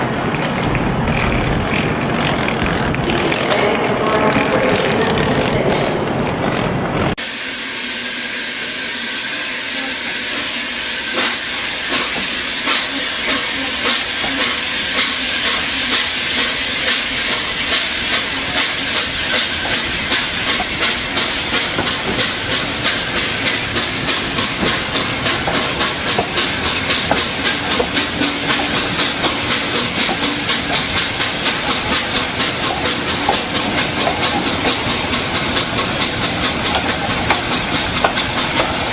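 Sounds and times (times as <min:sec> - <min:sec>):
steam locomotive hissing steam: 0:07.2 - 0:38.9
locomotive exhaust chuffs: 0:07.5 - 0:38.9.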